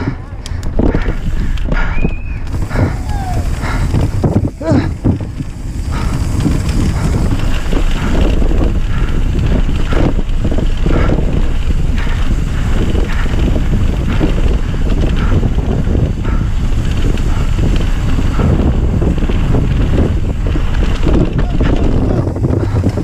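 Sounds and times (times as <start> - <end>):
bike knocking and rattling: 0.0 - 23.0
tyres rolling on dirt: 0.0 - 23.0
wind rushing over microphone: 0.0 - 23.0.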